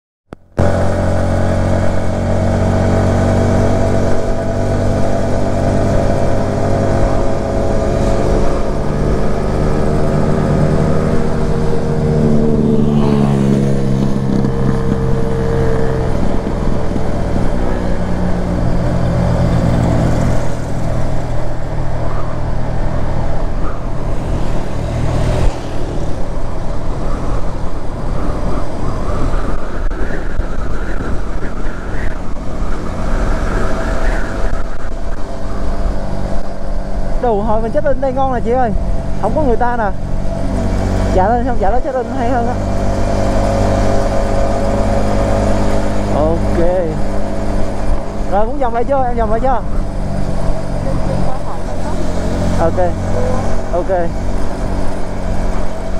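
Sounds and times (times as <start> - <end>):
motorcycle engine running: 0.3 - 55.9
wind and road noise: 0.3 - 55.9.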